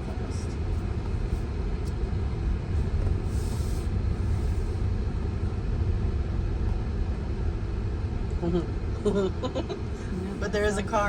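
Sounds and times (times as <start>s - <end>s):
tyre and road noise in car cabin: 0.0s - 11.0s.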